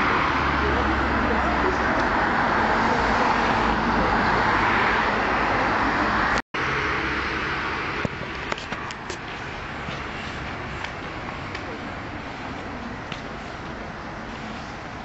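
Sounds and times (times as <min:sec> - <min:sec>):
bus passing close by: 0:00.0 - 0:15.0
street noise: 0:00.0 - 0:15.0.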